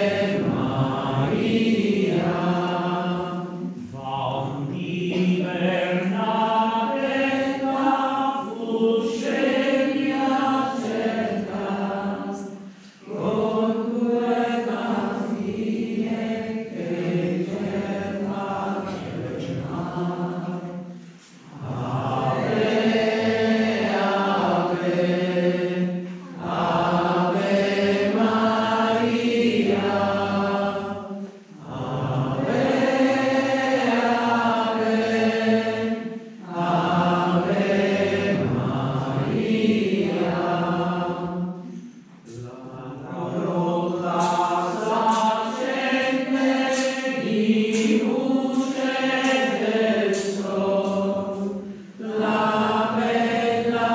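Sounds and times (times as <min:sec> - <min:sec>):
voices singing a hymn: 0:00.0 - 0:53.9.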